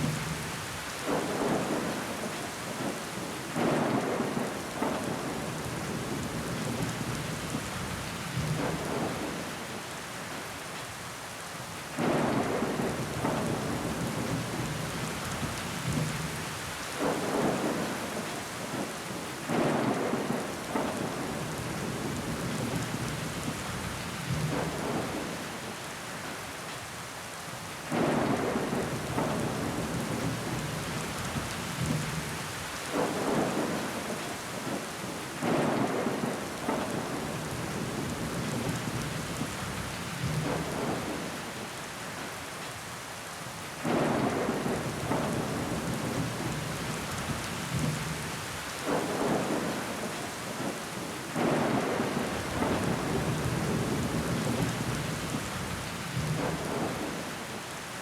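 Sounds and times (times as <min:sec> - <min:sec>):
rain on window glass: 0:00.0 - 0:58.0.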